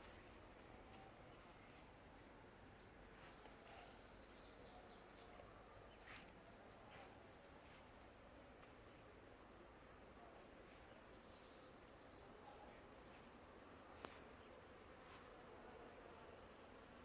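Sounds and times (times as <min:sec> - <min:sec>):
faint bird song: 0:00.8 - 0:14.7.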